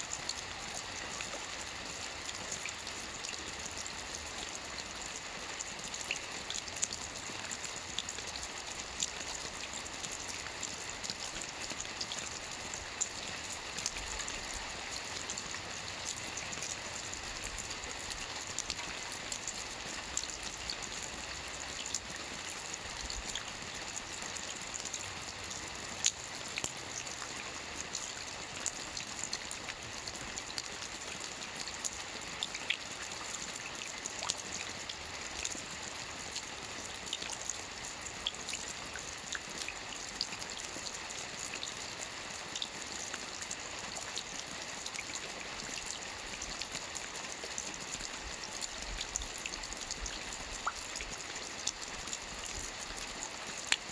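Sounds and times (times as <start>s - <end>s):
soft rain on a roof: 0.0s - 53.9s.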